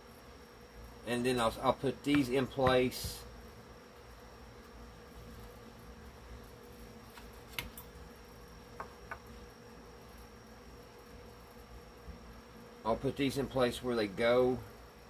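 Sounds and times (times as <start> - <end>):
faint buzzing hum: 0.0 - 15.0.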